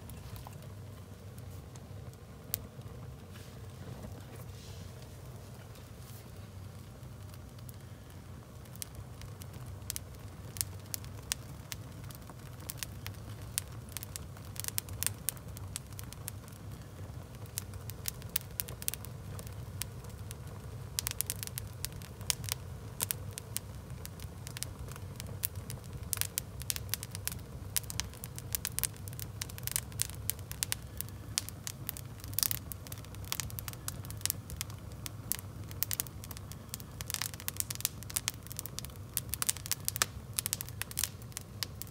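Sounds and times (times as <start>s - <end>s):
wood fire crackling: 0.0s - 41.9s
sharp pops from fire: 6.8s - 41.9s.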